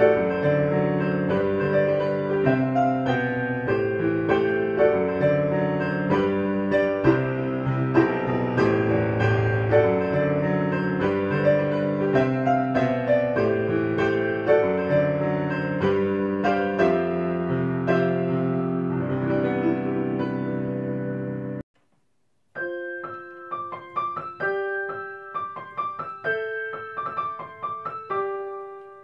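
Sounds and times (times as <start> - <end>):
piano music: 0.0 - 21.7, 22.6 - 29.0.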